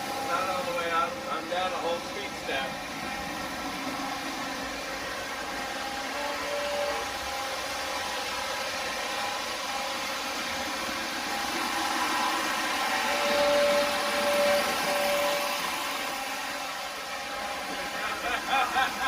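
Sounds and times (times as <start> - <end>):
model train wheels and motors rumbling: 0.0 - 19.0.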